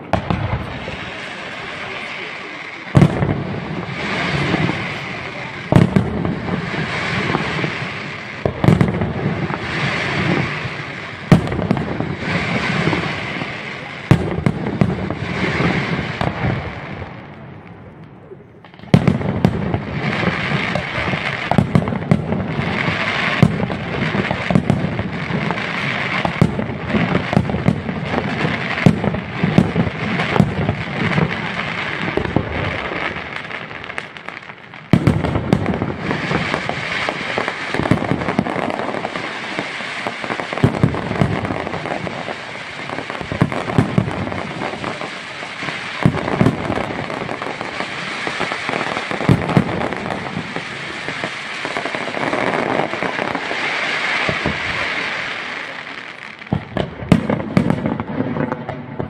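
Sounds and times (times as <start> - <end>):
fireworks bursting and crackling: 0.0 - 59.0
fireworks sharp bang: 0.0 - 59.0.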